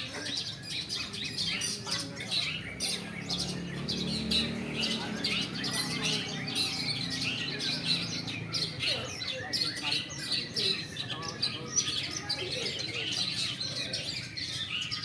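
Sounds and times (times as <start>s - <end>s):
songbirds chattering and squawking: 0.0s - 15.0s.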